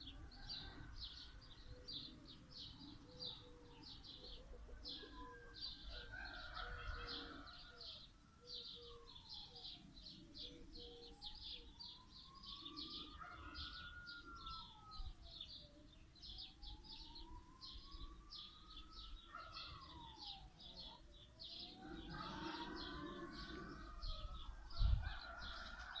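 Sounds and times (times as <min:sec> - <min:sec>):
small birds chirping: 0:00.0 - 0:25.9
distant siren wailing: 0:00.0 - 0:26.0.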